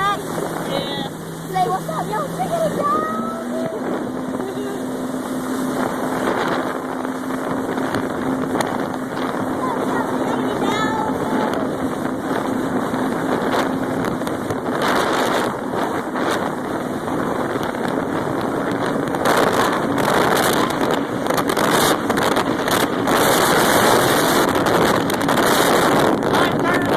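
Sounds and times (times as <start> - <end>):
jet ski engine hum: 0.0 - 26.9
rushing water: 0.0 - 26.9
wind buffeting microphone: 0.0 - 26.9.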